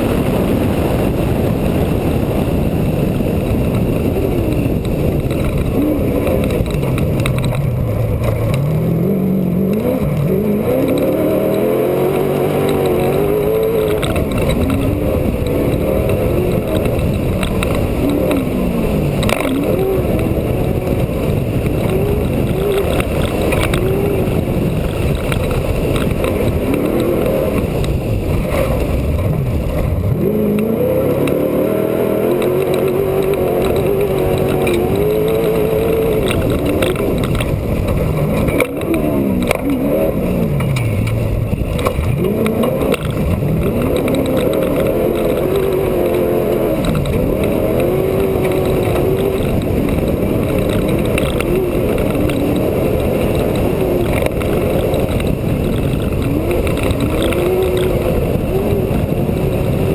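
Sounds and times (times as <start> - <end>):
truck engine revving: 0.0 - 59.9
knocks and rattles: 2.8 - 59.9.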